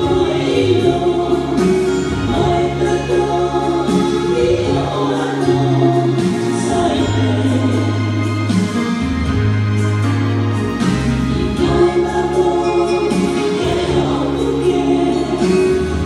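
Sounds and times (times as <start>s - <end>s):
choir singing in harmony: 0.0s - 8.9s, 10.8s - 16.0s.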